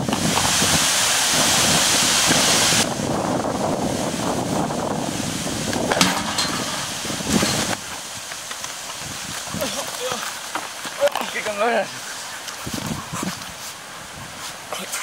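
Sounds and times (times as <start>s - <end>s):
wind buffeting microphone: 0.0s - 10.3s, 12.4s - 14.7s.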